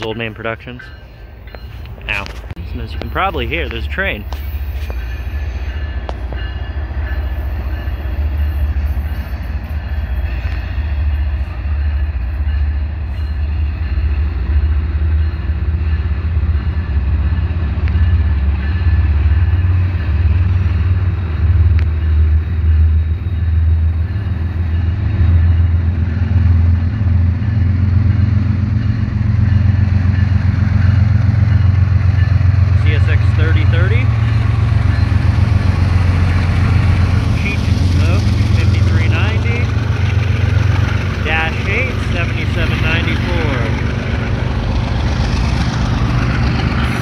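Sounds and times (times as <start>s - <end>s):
freight locomotive engine rumble: 0.0s - 47.0s.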